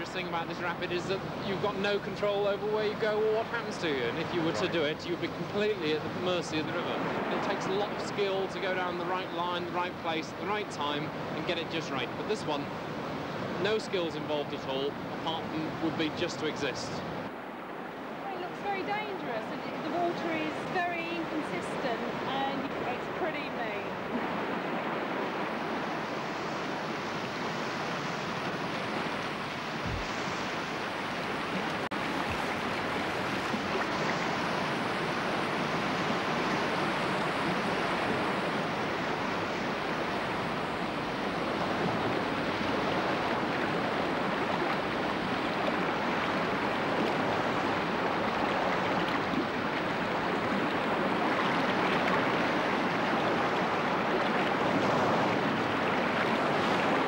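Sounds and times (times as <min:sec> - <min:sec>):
rapids rushing water: 0:00.0 - 0:57.0.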